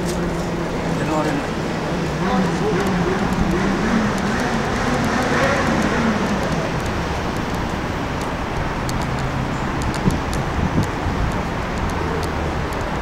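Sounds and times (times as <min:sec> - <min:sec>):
city traffic hum: 0:00.0 - 0:13.0
low engine drone: 0:00.0 - 0:13.0.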